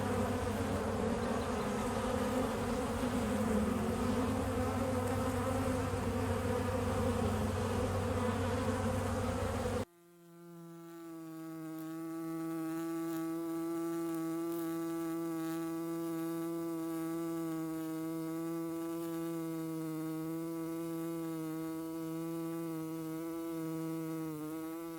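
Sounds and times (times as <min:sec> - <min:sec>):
bees buzzing: 0:00.0 - 0:24.9.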